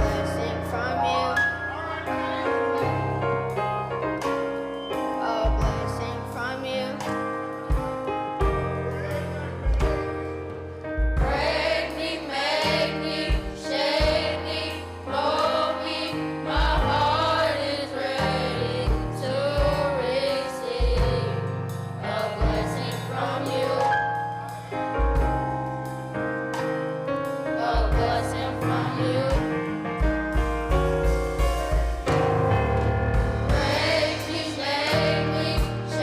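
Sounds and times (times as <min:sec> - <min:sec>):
gospel choir singing: 0:00.0 - 0:25.3, 0:27.2 - 0:29.8, 0:32.5 - 0:36.0
bass: 0:00.0 - 0:36.0
drums: 0:00.0 - 0:36.0
keyboard: 0:00.0 - 0:36.0.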